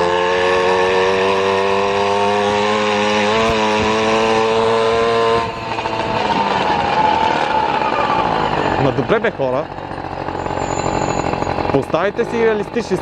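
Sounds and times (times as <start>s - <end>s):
engine running at high speed: 0.0s - 13.0s.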